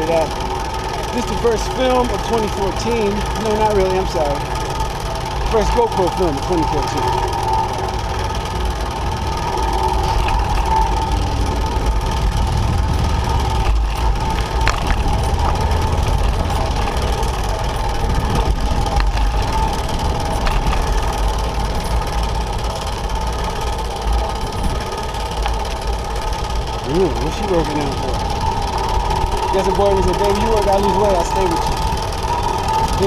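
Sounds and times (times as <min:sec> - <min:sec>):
highway traffic rumble: 0:00.0 - 0:33.0.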